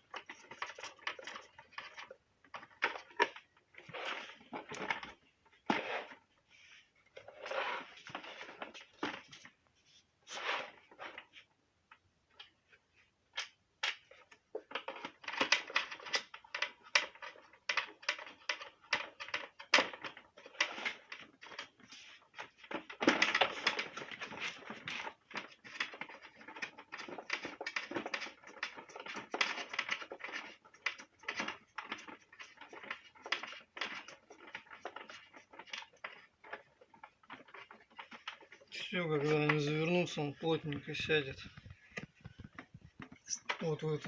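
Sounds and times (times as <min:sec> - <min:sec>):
plastic covers clicking and rattling: 0:00.0 - 0:06.2, 0:07.1 - 0:09.6, 0:10.8 - 0:44.0.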